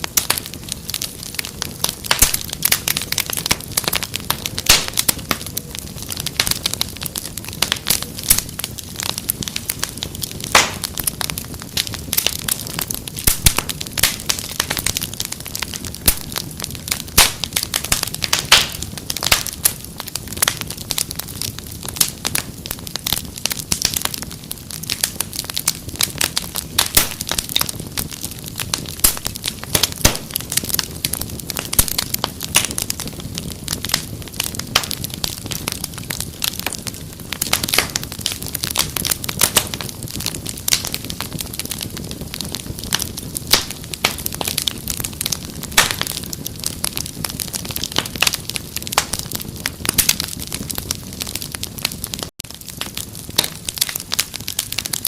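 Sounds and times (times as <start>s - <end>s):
low rumble of flame: 0.0s - 55.0s
wood fire crackling and popping: 0.0s - 55.0s.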